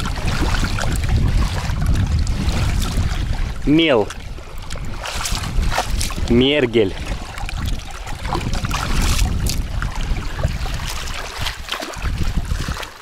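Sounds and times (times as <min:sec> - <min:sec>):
water splashes: 0:00.0 - 0:13.0
wind buffeting microphone: 0:00.0 - 0:13.0
small waves lapping on stones: 0:02.5 - 0:13.0.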